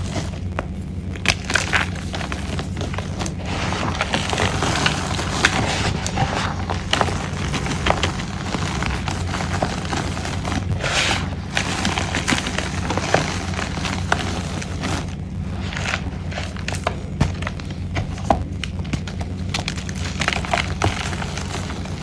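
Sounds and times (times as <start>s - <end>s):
chalk being crushed: 0.0s - 22.0s
steady low hum: 0.0s - 22.0s.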